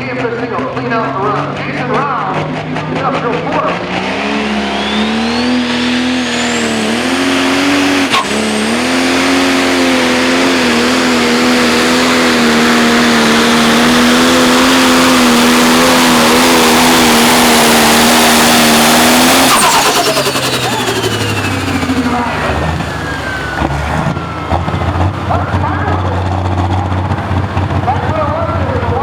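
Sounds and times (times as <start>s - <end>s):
diesel engine at full throttle: 0.0s - 29.0s
high turbo whine: 0.0s - 29.0s.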